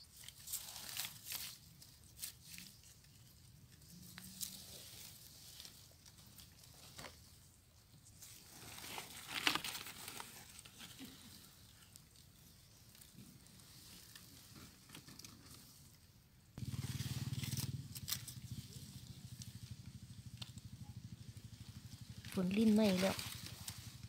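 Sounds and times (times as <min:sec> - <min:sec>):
leaves rustling and crinkling: 0:00.0 - 0:24.0.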